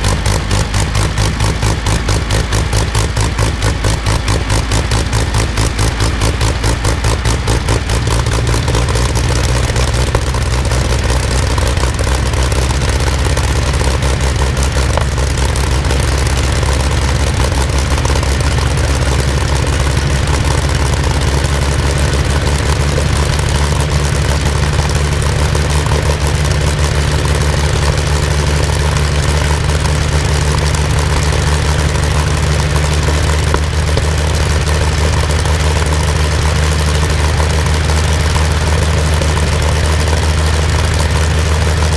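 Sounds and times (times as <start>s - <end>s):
aero engine idling: 0.0s - 41.9s.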